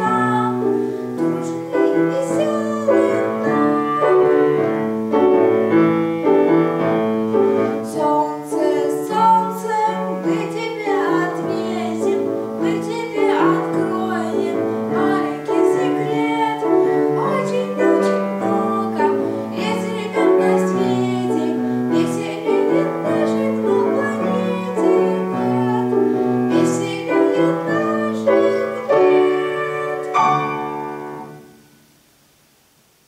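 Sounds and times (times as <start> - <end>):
grand piano playing: 0.0 - 31.9.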